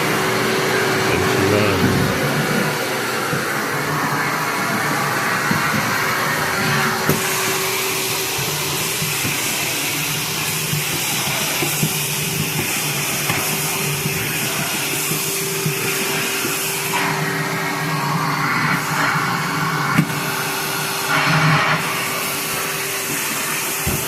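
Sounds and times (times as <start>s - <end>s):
vacuum motor and air rush: 0.0s - 24.0s.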